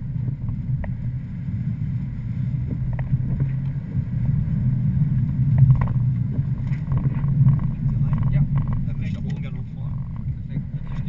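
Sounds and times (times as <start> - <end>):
car driving on wet road: 0.0 - 11.0.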